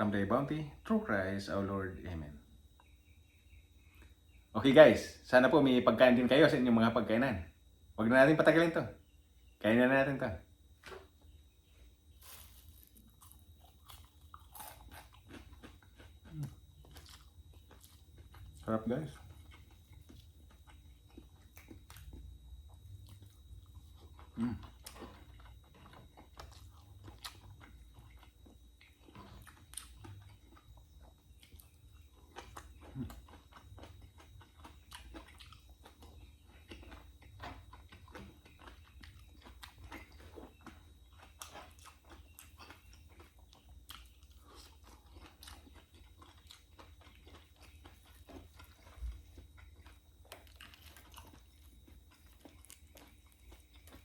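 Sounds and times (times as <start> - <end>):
faint low hum: 0.0 - 54.0
person chewing crunchy food: 10.8 - 54.0.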